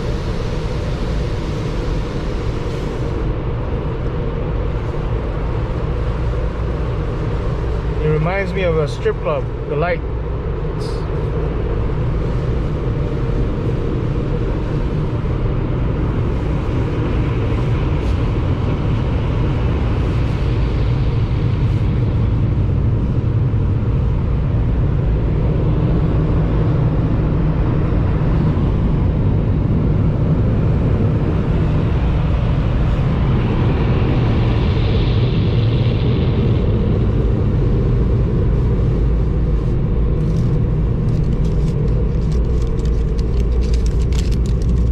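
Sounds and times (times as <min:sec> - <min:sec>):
car wash machinery rumble: 0:00.0 - 0:44.9.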